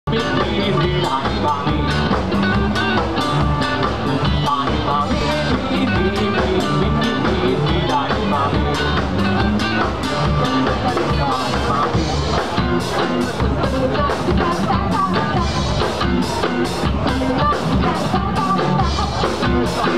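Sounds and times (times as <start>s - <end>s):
drum kit: 0.1s - 19.9s
electric guitars: 0.1s - 19.9s
person singing into a microphone: 0.1s - 19.9s.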